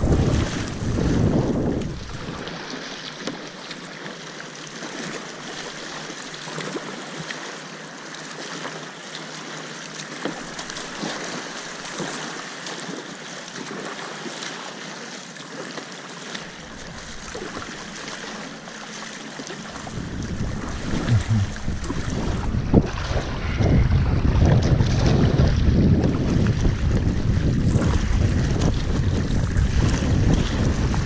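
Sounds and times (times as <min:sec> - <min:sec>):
paddle strokes splashing: 0:00.0 - 0:31.0
water washing against hull: 0:00.0 - 0:31.0.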